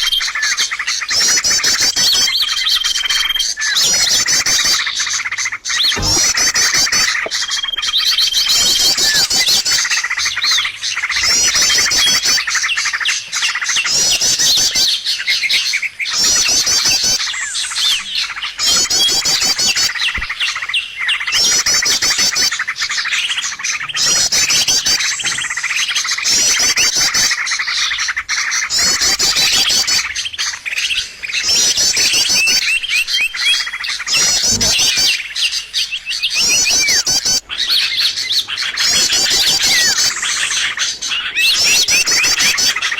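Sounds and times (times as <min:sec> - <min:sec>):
small birds twittering: 0:00.0 - 0:42.9.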